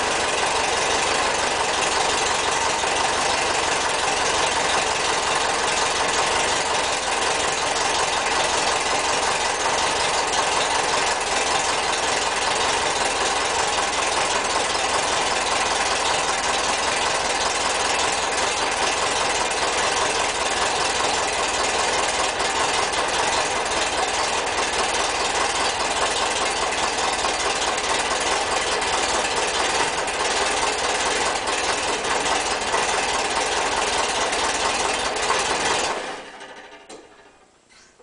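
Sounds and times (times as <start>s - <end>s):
car engine idling: 0.0s - 37.6s.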